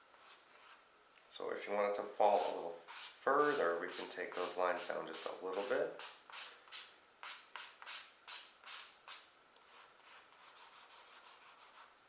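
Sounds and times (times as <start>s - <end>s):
charcoal scratching on paper: 0.1s - 0.8s, 2.3s - 11.9s.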